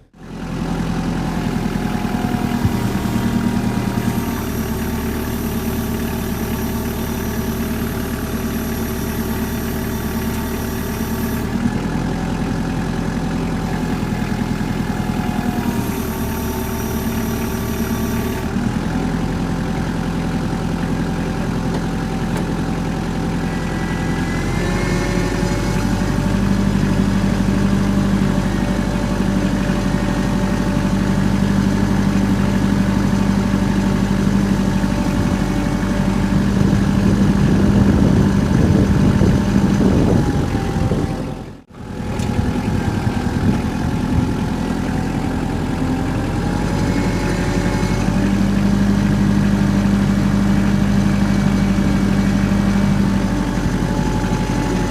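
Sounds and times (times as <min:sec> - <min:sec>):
engine running at fast idle: 0:00.0 - 0:54.9.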